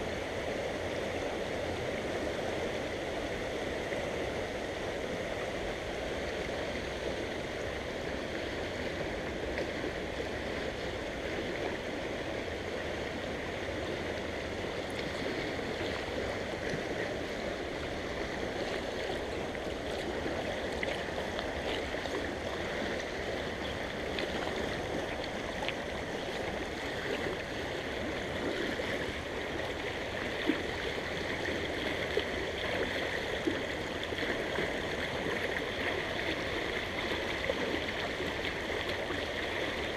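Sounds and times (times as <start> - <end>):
water flowing over stones: 0.0 - 39.9.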